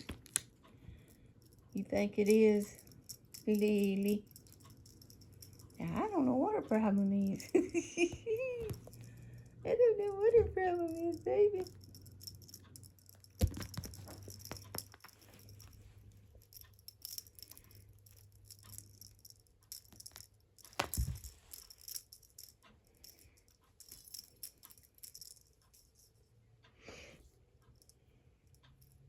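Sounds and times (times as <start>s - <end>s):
cat toy rattling and jingling: 0.9s - 26.2s.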